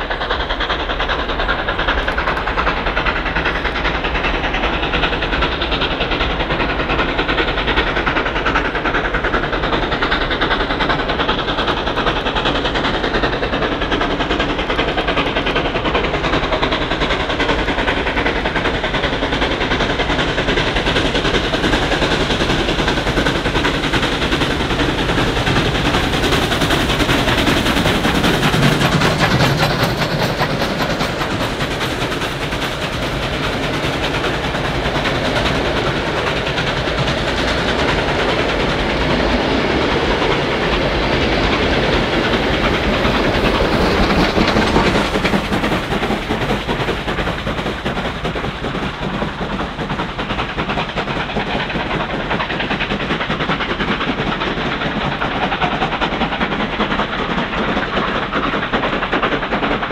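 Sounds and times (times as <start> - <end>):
steam locomotive exhaust chuffs: 0.0 - 59.9.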